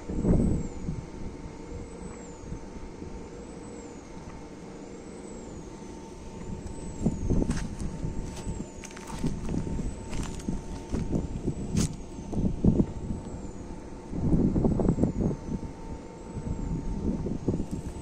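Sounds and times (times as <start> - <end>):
wind turbine humming and whining: 0.0 - 18.0.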